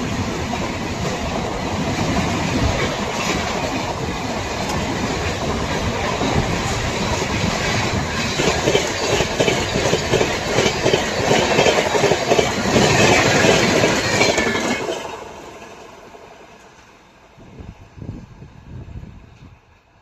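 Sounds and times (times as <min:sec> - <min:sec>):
express train passing: 0:00.0 - 0:20.0.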